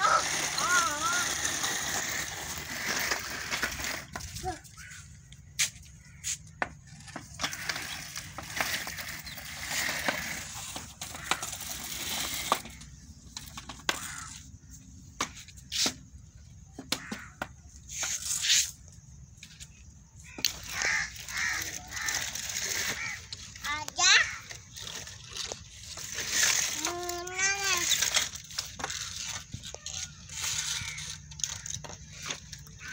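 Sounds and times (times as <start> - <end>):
baby walker wheels rolling: 0.0 - 14.6, 20.3 - 32.9
wooden stick scraping concrete floor: 0.0 - 14.6, 15.2 - 16.2, 16.9 - 32.9.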